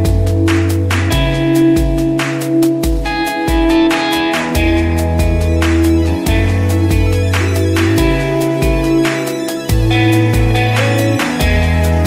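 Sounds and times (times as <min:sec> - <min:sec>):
background music with a beat: 0:00.0 - 0:12.0.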